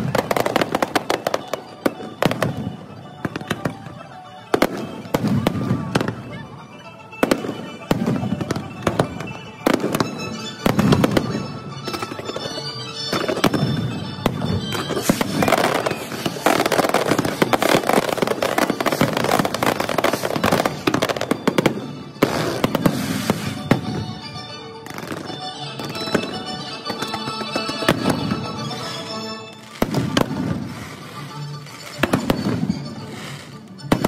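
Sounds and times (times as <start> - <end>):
fireworks bursting: 0.0 - 34.0
music playing: 0.0 - 34.0.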